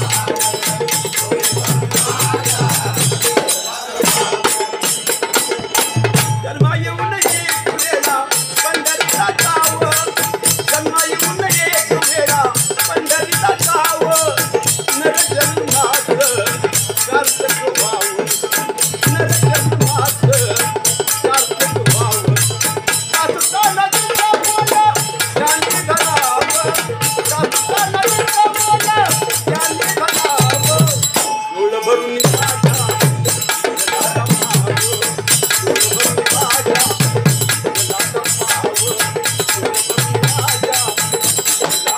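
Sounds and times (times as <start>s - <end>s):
drum beats: 0.0s - 31.5s, 32.1s - 41.9s
jingling percussion: 0.0s - 41.9s.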